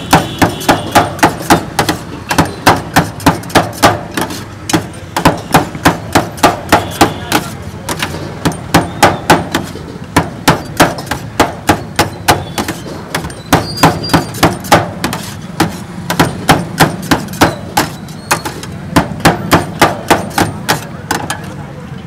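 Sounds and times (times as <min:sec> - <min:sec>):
metal blade chopping on iron griddle: 0:00.0 - 0:21.4.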